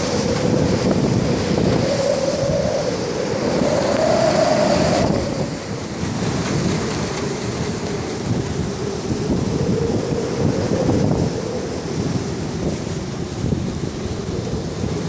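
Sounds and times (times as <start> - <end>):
wind buffeting microphone: 0.0 - 15.0
wind howling: 0.0 - 15.0.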